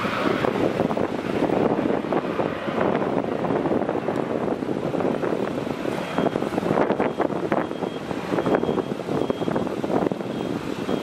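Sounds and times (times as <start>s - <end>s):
jet engines roaring with crackle: 0.0s - 11.0s.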